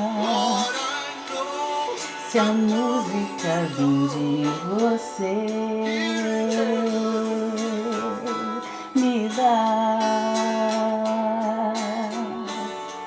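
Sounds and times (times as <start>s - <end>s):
person singing long notes: 0.0s - 13.0s
strummed acoustic guitar: 0.0s - 13.0s.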